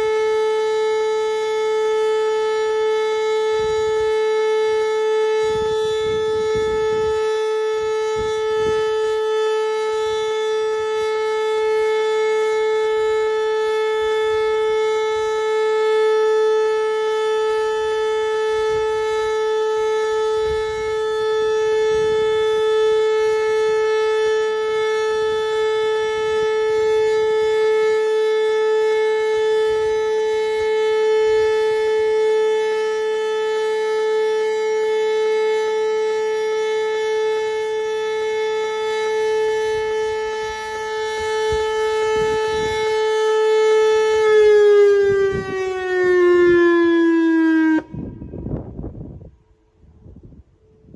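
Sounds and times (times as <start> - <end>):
warning siren steady tone: 0.0 - 50.9.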